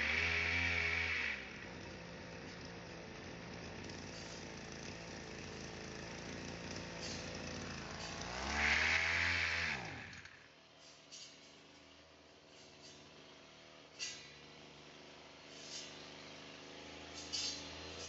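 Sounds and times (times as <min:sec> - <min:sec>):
brush cutter engine idling and revving: 0:00.0 - 0:18.0.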